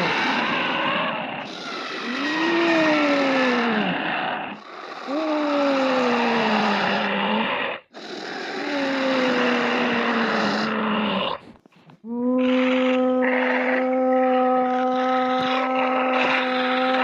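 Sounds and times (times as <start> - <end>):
rough creature calls: 0.0 - 11.5, 12.1 - 17.0.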